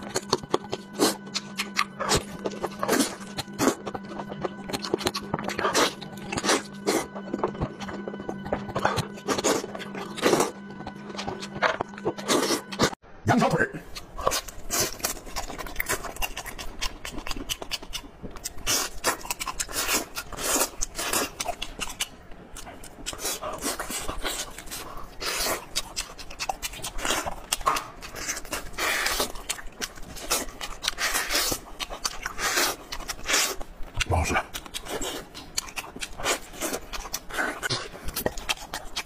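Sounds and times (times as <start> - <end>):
wet chewing and lip-smacking: 0.0 - 13.0, 13.9 - 39.0.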